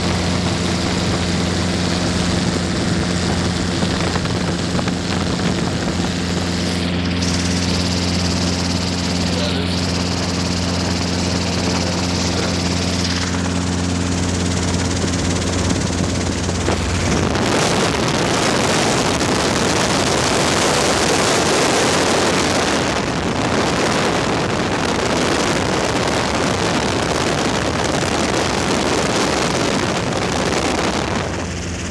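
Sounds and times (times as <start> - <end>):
helicopter rotor and engine drone: 0.0 - 31.9
wind rush on microphone: 0.0 - 31.9.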